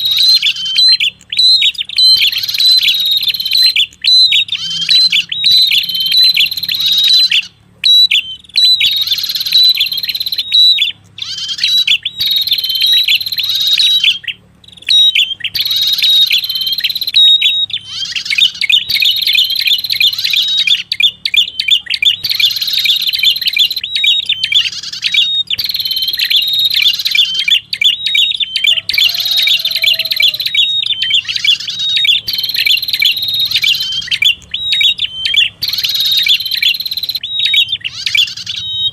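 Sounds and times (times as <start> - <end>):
rapid high bird chirping: 0.0 - 38.9.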